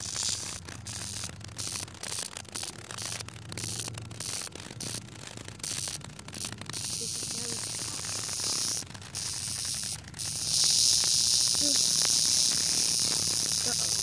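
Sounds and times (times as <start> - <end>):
insect buzzing: 0.0 - 14.0.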